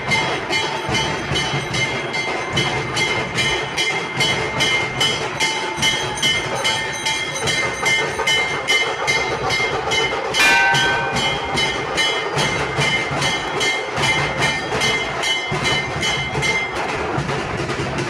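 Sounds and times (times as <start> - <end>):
ringing metal: 0.0 - 16.9
dhol drums beating: 0.0 - 18.0.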